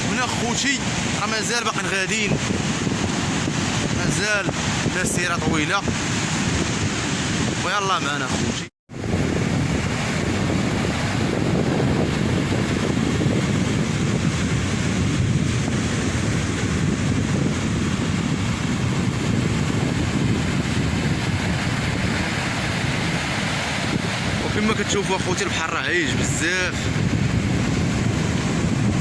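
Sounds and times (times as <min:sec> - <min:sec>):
sea surf breaking: 0:00.0 - 0:29.0
wind buffeting microphone: 0:00.0 - 0:29.0.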